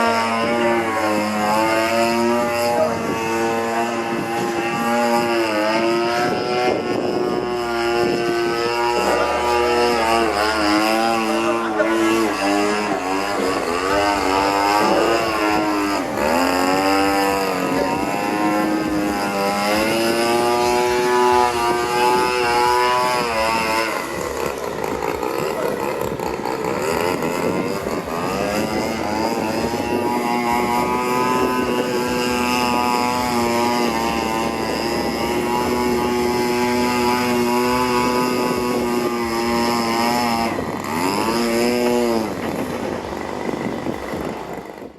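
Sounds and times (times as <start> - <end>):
model plane engine and propeller: 0.0 - 44.9.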